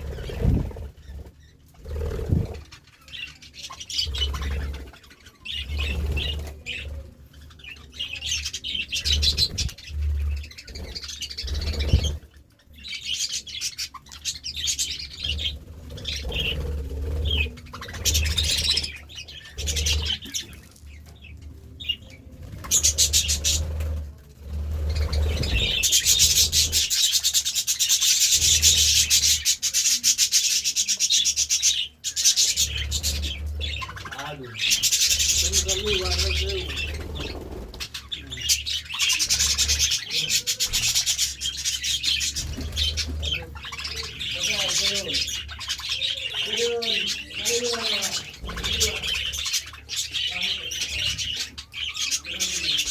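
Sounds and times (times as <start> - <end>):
budgerigars chirping: 0.0 - 23.9, 24.8 - 52.9.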